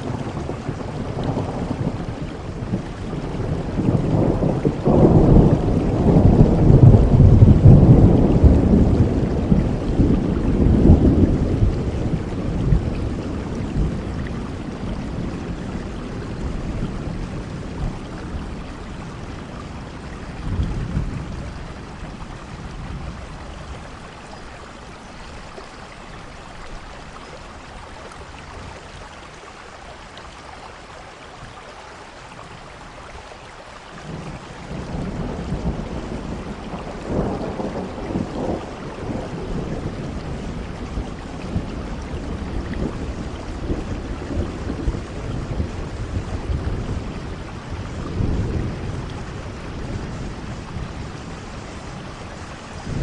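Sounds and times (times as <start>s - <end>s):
rolling thunder: 0.0s - 25.0s, 34.0s - 53.0s
steady rain: 0.0s - 53.0s.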